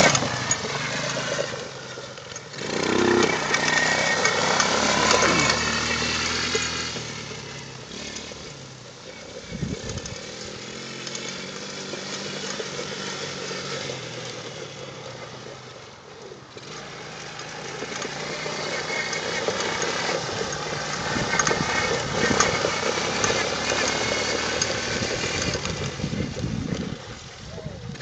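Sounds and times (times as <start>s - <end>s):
atv engine running: 0.0s - 28.0s.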